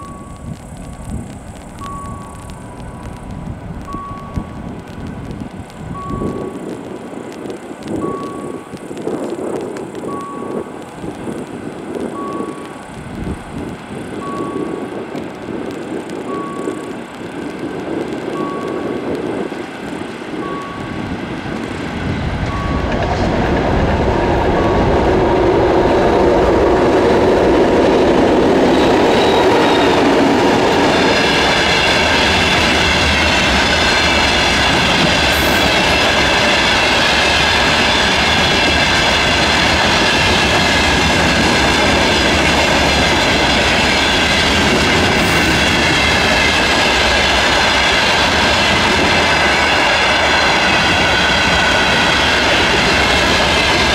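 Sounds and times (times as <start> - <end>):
level crossing signal beeping: 0.0 - 3.2, 3.8 - 4.8, 5.9 - 7.2, 7.9 - 15.1, 16.2 - 17.5, 18.2 - 19.6, 20.3 - 21.6, 22.4 - 53.9
diesel locomotive approaching: 0.0 - 53.9.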